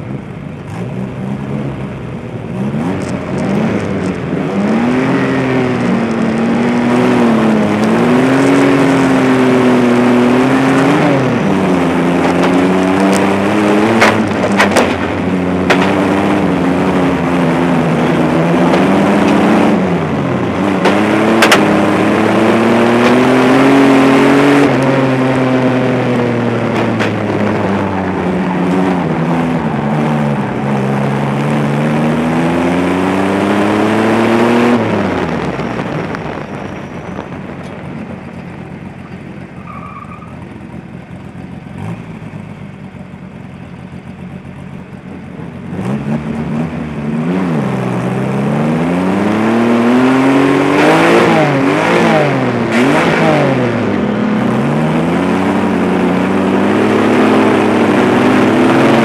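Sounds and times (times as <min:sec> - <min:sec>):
race car engine revving: 0:00.0 - 0:43.0, 0:43.8 - 0:59.0.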